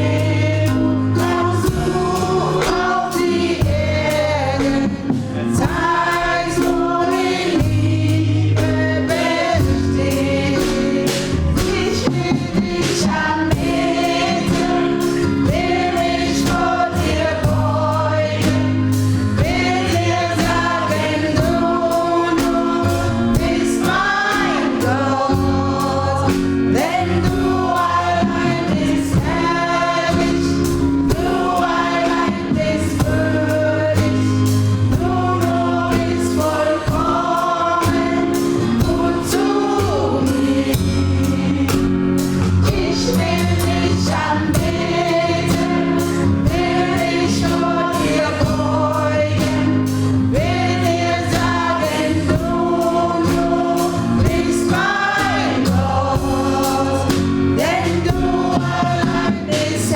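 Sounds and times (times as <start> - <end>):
gospel choir singing: 0.0 - 59.9
instrumental accompaniment: 0.0 - 59.9
sustained bass line: 0.0 - 59.9.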